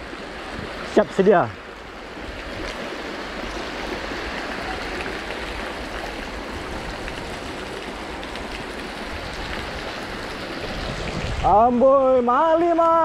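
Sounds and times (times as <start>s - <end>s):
steady water-like rushing: 0.0s - 13.0s.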